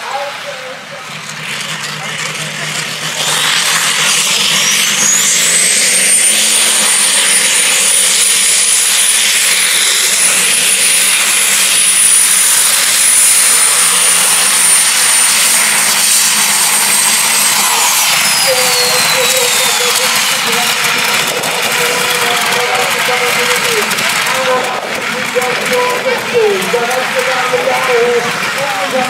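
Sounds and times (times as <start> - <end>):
tractor engine roaring with whine: 0.0 - 29.0.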